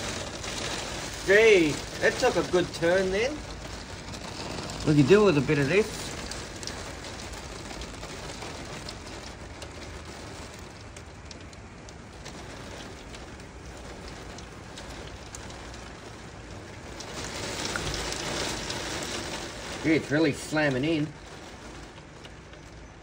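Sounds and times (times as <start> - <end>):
heavy rain pouring: 0.0 - 23.0
raindrops hitting: 0.0 - 23.0.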